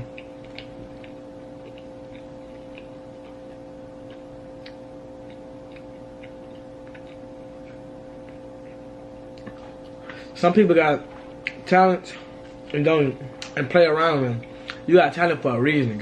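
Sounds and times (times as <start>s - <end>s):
person chewing food: 0.0s - 10.4s, 11.0s - 13.6s
steady two-tone hum: 0.0s - 16.0s.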